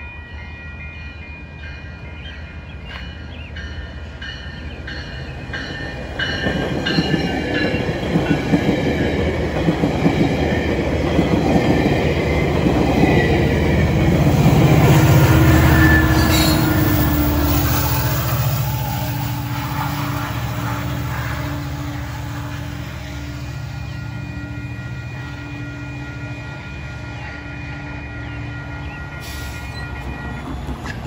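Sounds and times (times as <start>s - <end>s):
railway crossing bell dinging: 0.0s - 19.7s, 21.8s - 31.0s
diesel locomotive engine rumble: 0.0s - 31.0s
train coaches rumbling and clattering: 0.0s - 31.0s.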